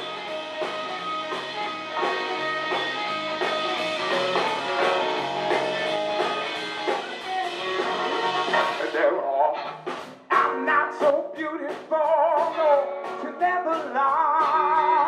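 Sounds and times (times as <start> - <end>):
bass and drums: 0.0 - 15.0
electric guitar: 0.0 - 15.0.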